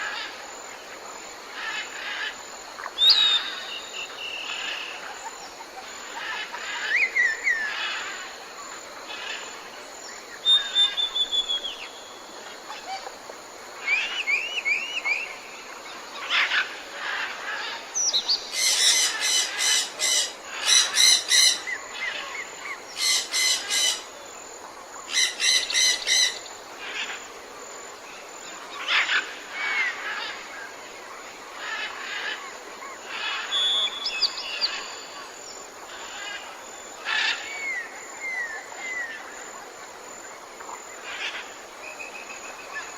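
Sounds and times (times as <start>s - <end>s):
background hiss: 0.0s - 42.9s.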